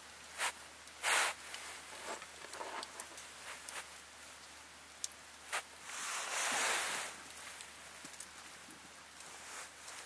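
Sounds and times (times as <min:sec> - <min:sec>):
rustle: 0:00.0 - 0:10.0.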